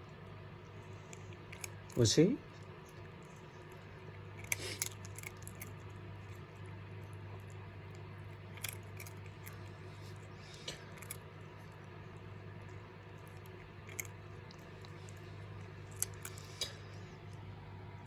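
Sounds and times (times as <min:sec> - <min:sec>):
cat licking and chewing: 0:00.0 - 0:18.0
steady low hum: 0:00.0 - 0:18.0.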